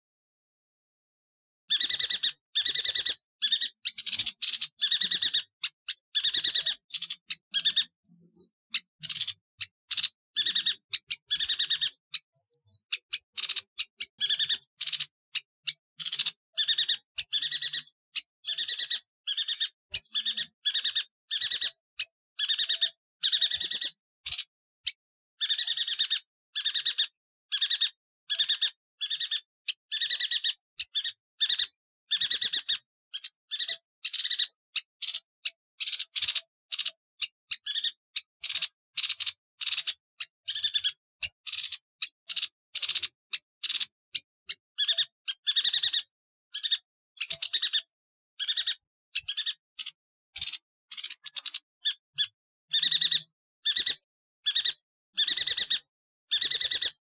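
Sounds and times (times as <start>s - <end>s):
bird singing trilled notes: 1.7s - 57.0s.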